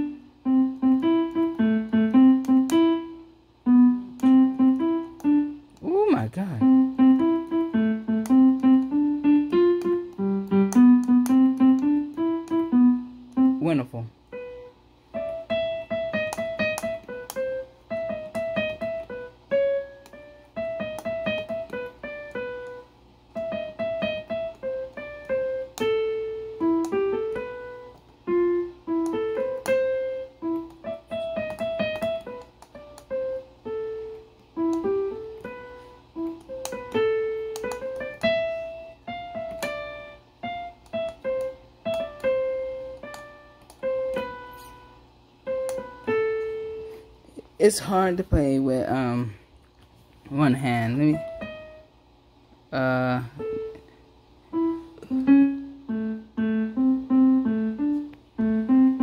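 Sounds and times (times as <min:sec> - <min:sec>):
digital keyboard piano melody: 0:00.0 - 0:47.5, 0:50.5 - 0:52.0, 0:53.2 - 0:53.9, 0:54.5 - 0:59.0.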